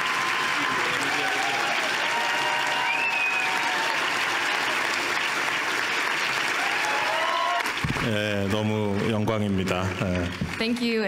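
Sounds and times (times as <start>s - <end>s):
calls and cheers: 0.0s - 9.0s
audience applauding: 0.0s - 10.9s.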